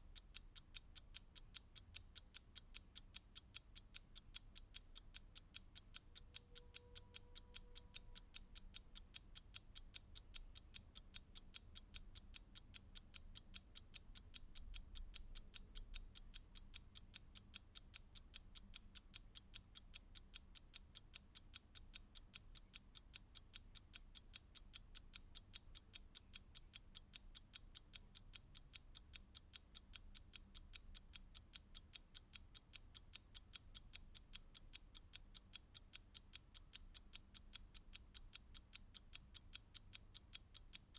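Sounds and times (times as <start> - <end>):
mechanical clock ticking: 0.0 - 40.9.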